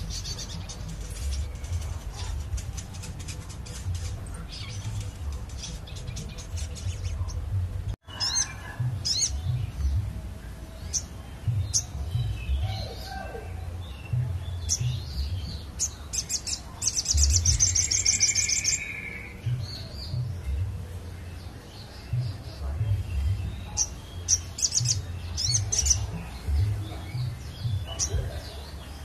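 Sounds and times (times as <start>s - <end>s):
songbird chirping and trilling: 0.0s - 29.0s.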